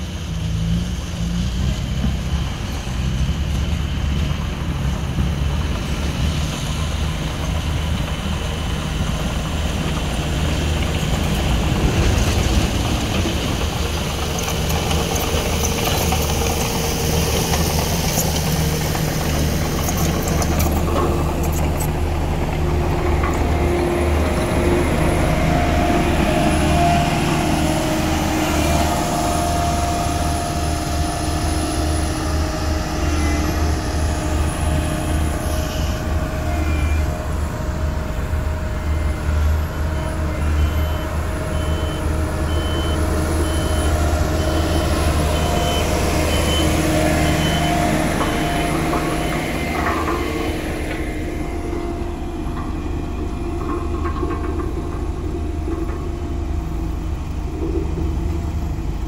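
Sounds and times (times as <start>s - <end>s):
road roller diesel engine rumbling: 0.0s - 59.0s.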